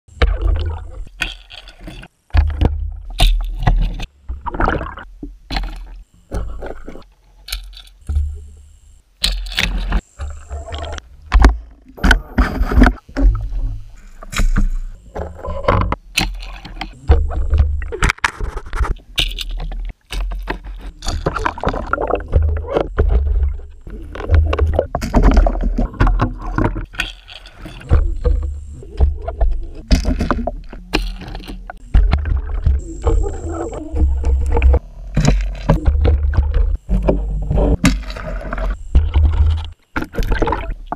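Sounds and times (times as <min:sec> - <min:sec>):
muffled water sloshing underwater: 0:00.1 - 0:40.9.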